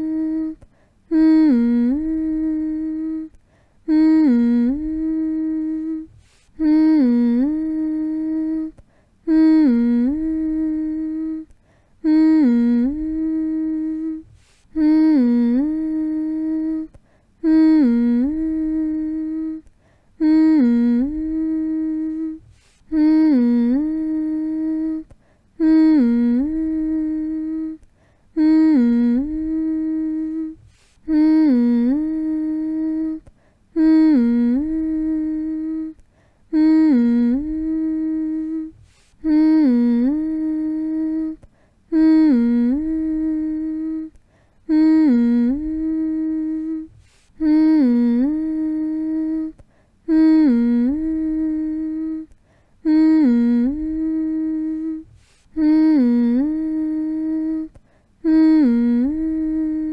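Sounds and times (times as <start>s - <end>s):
person humming a low note: 0.0s - 59.9s.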